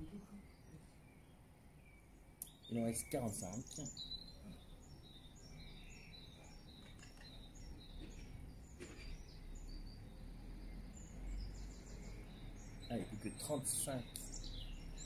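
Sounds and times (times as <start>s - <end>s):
outdoor background noise: 0.0s - 15.0s
small birds chirping: 0.0s - 15.0s.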